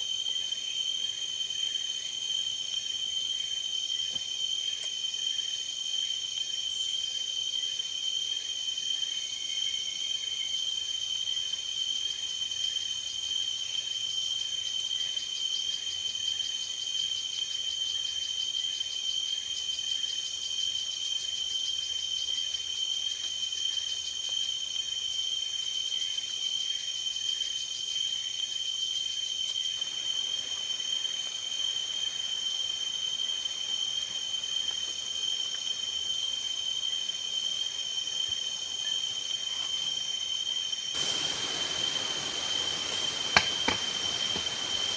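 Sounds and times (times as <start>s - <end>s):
forest insects trilling: 0.0s - 44.9s.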